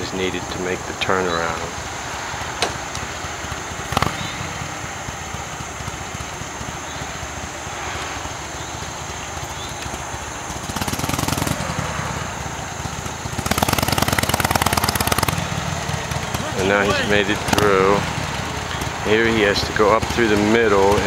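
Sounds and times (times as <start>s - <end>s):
distant motorcycle engine at low speed: 0.0s - 21.0s.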